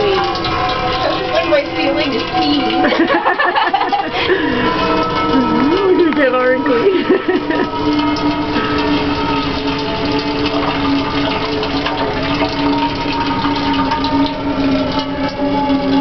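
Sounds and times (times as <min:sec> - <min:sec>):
steady ringing tones: 0:00.0 - 0:16.0
water splashing into metal pot: 0:00.0 - 0:16.0.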